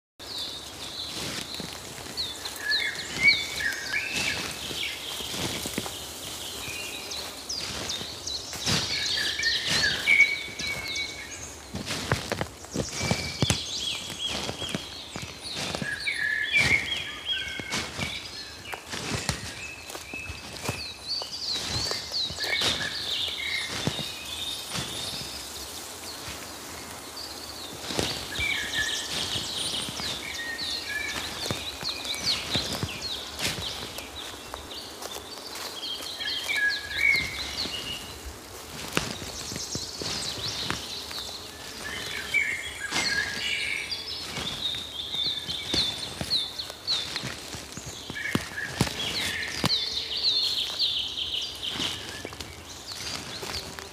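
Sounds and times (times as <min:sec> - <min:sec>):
songbirds singing and calling: 0:00.2 - 0:53.9
footfalls on a path: 0:00.6 - 0:26.6, 0:27.6 - 0:49.8.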